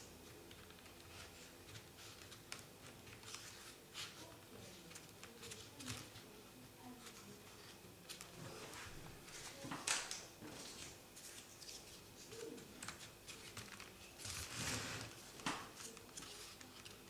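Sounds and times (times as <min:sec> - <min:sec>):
paper rustling and crinkling: 0:00.3 - 0:17.0.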